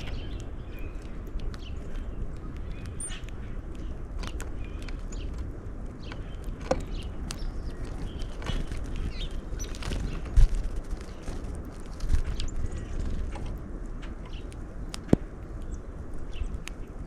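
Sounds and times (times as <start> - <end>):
bird chips and calls: 0.0 - 17.0
steady low rumble: 0.0 - 17.0.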